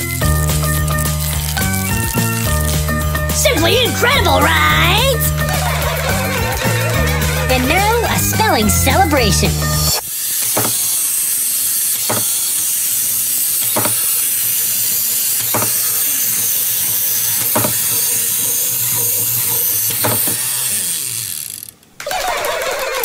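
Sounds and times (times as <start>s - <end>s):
wind-up toy clockwork whirring: 0.0s - 23.0s.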